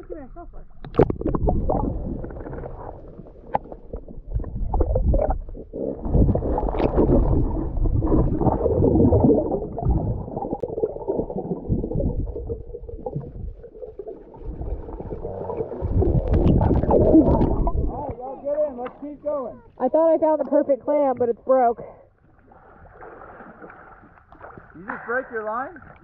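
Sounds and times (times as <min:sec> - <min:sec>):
muffled water sloshing and gurgling: 0:00.0 - 0:26.0.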